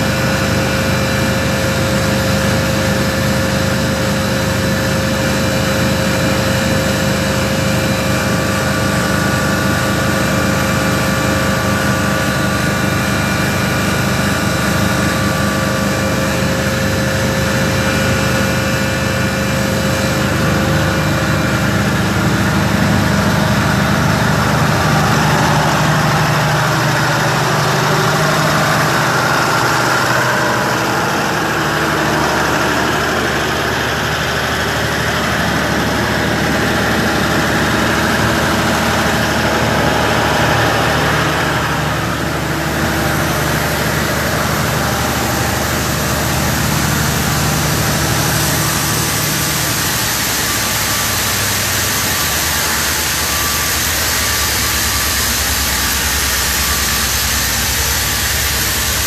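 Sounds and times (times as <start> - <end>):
machinery humming with held tones: 0.0 - 59.0.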